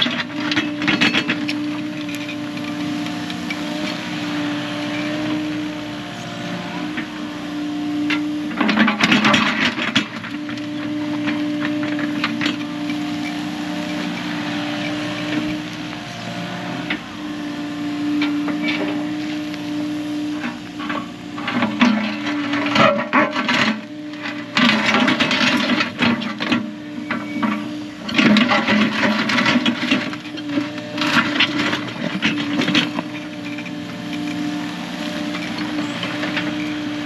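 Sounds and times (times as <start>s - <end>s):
machine engine running: 0.0s - 37.0s.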